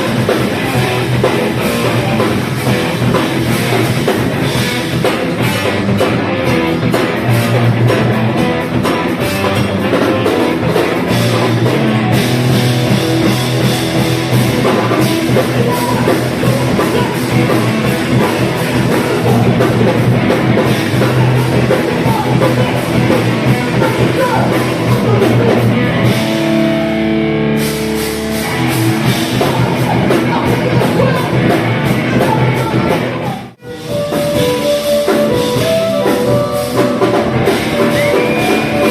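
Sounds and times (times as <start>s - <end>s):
drum kit: 0.0s - 38.9s
electric guitar: 0.0s - 38.9s
rock vocals: 0.0s - 38.9s.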